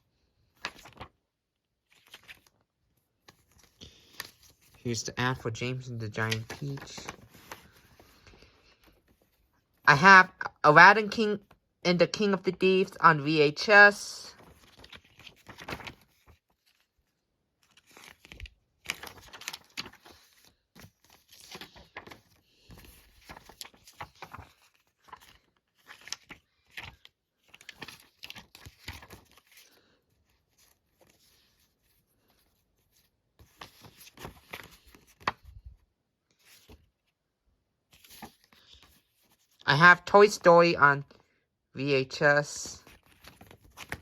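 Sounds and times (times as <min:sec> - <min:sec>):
paper rustling and crinkling: 0:00.3 - 0:09.8, 0:14.3 - 0:37.2, 0:37.9 - 0:39.6, 0:42.4 - 0:44.0.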